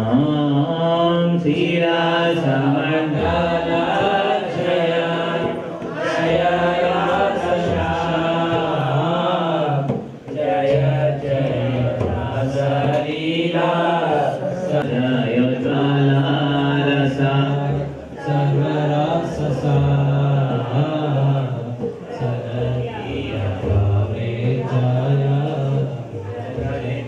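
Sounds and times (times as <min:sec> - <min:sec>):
voices chanting long notes: 0:00.0 - 0:27.0.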